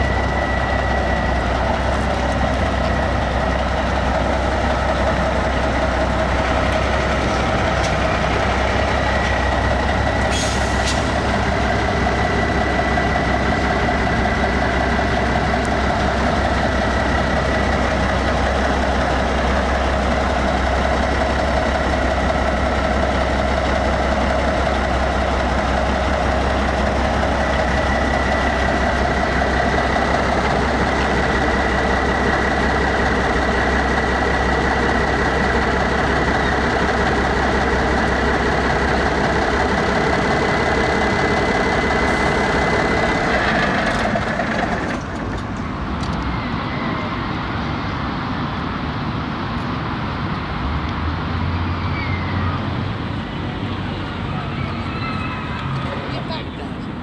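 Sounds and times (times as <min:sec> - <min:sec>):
diesel truck engine idling: 0:00.0 - 0:50.3.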